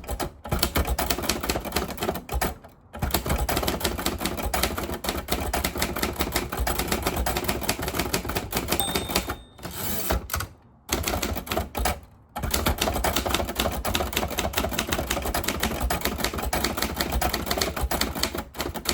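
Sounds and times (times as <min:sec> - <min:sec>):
typewriter keystroke clacks: 0:00.0 - 0:18.9.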